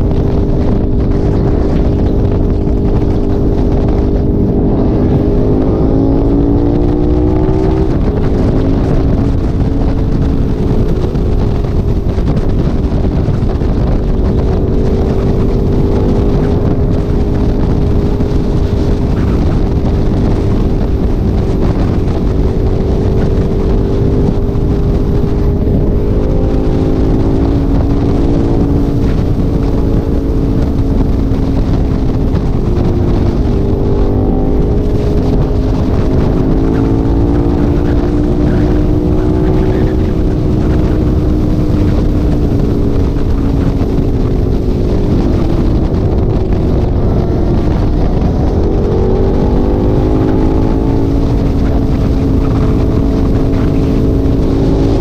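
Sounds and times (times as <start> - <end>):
vehicle engine droning: 0.0 - 55.0
wind rumble on microphone: 0.0 - 55.0.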